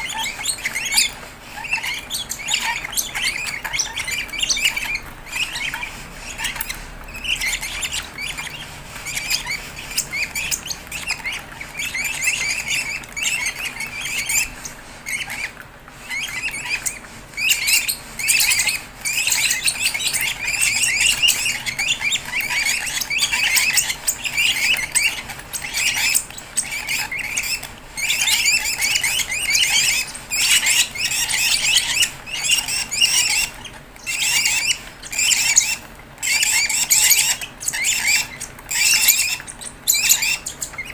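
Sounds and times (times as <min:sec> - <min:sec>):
bird chicks begging chirps: 0:00.0 - 0:40.9.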